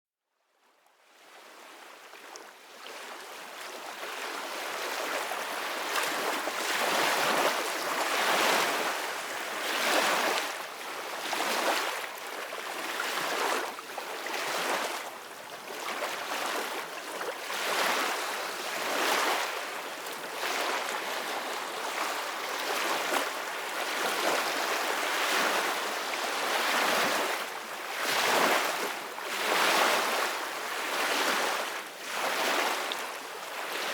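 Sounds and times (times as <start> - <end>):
ocean waves breaking on beach: 2.7 - 33.9.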